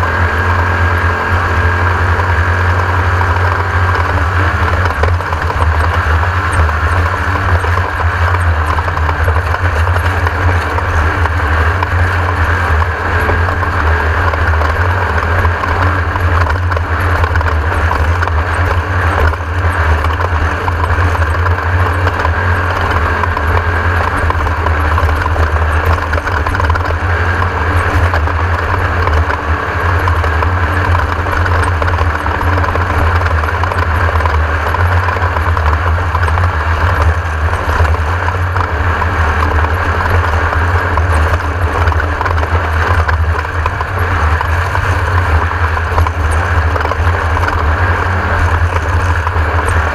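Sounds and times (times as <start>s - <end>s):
off-road buggy engine: 0.0s - 49.9s.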